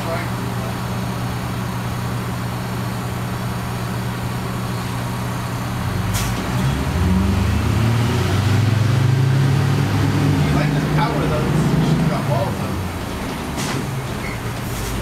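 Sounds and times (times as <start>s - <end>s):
diesel bus engine running: 0.0s - 15.0s.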